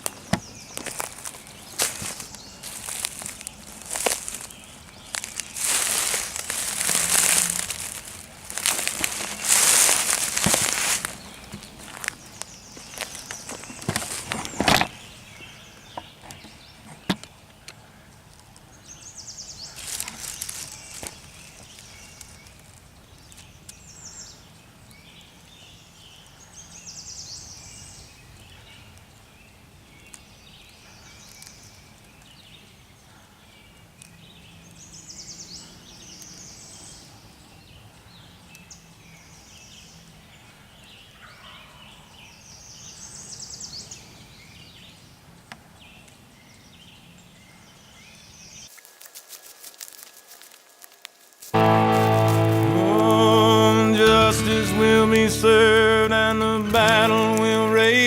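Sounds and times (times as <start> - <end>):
songbirds trilling: 0.0 - 48.7.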